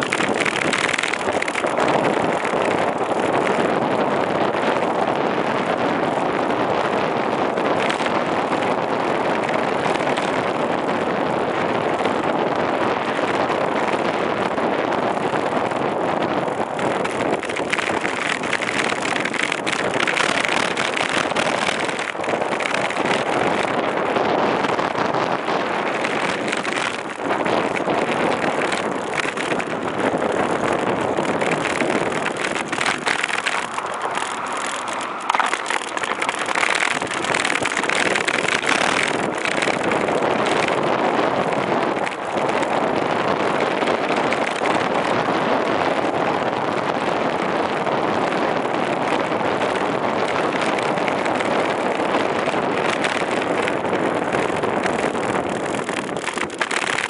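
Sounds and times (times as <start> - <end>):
bicycle tyres on road: 0.0 - 57.0
wind rushing over microphone: 0.0 - 57.0.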